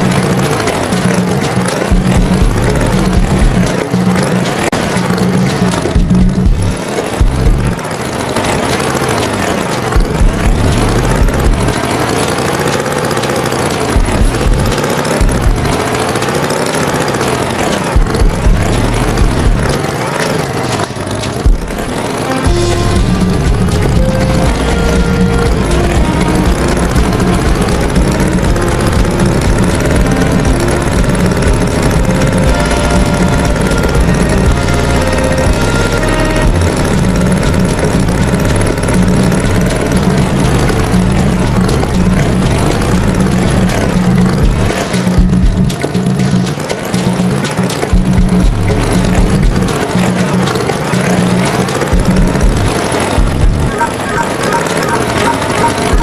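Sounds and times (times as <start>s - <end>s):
low thumps: 0.0s - 8.0s, 9.9s - 12.2s, 13.8s - 16.2s, 18.0s - 20.0s, 20.8s - 50.5s, 51.2s - 53.8s
tractor engine running: 0.0s - 56.0s.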